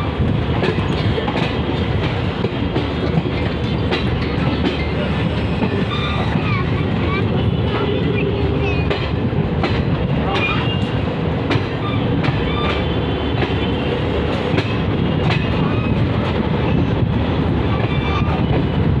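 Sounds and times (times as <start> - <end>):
wheels clacking over rail joints: 0.0 - 18.7
train coaches rumbling: 0.0 - 19.0.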